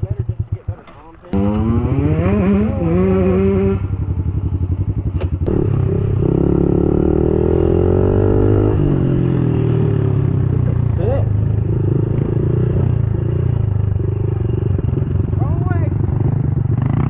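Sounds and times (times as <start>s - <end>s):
pit bike engine revving: 0.2s - 17.0s.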